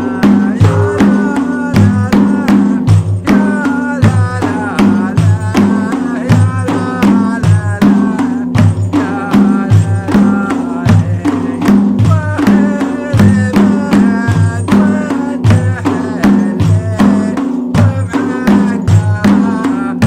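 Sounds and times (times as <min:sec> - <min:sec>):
frame drums beating: 0:00.0 - 0:20.0.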